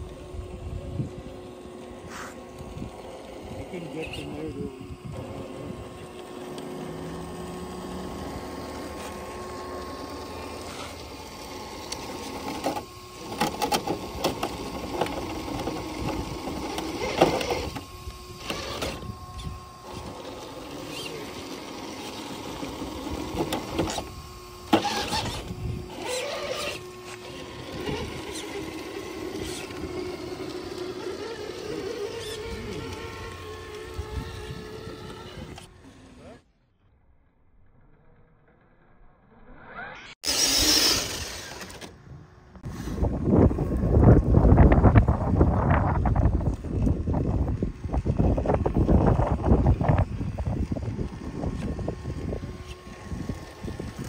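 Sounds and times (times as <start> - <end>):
electric motor whine: 0.0 - 36.9, 37.8 - 54.0.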